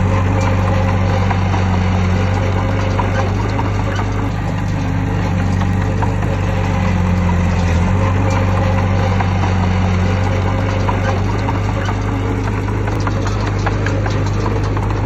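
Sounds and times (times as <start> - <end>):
heavy diesel engine humming: 0.0 - 15.0.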